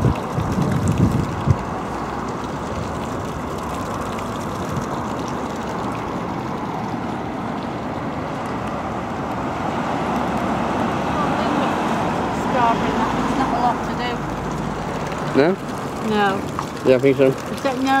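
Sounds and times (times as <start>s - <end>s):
cars driving along street: 0.0s - 18.0s.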